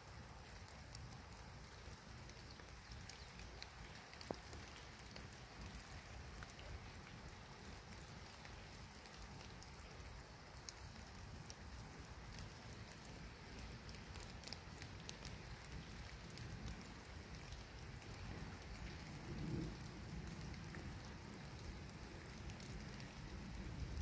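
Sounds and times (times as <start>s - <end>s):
light rain hiss: 0.0s - 24.0s
raindrop ticks: 0.1s - 24.0s.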